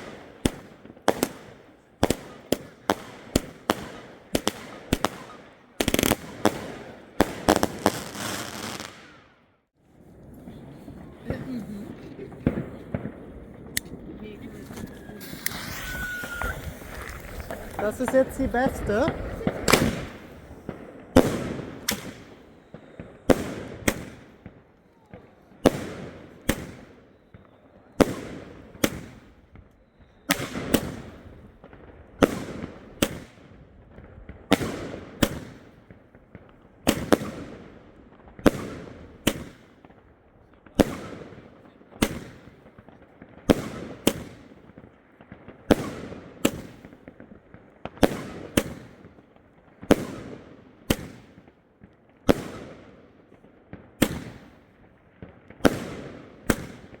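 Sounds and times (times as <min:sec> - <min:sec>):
firework bangs echoing: 0:00.0 - 0:09.4, 0:10.4 - 0:57.0.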